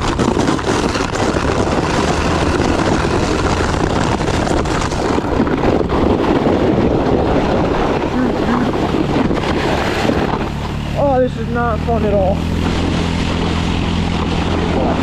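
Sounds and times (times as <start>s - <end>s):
sled sliding over snow: 0.0s - 15.0s
wind buffeting microphone: 0.0s - 15.0s.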